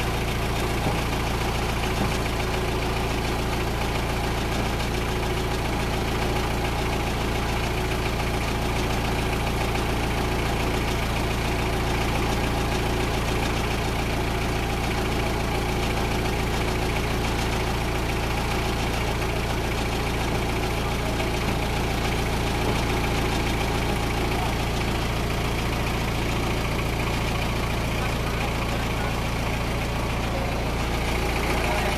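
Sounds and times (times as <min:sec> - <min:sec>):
drilling machine engine running: 0:00.0 - 0:31.9.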